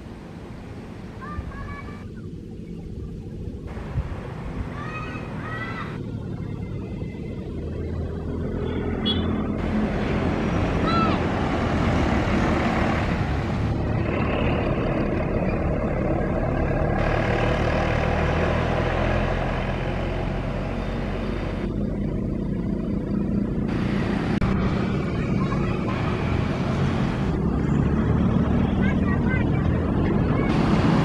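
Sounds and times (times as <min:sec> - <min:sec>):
bus engine running: 0:00.0 - 0:31.0
road and tyre noise: 0:00.0 - 0:31.0.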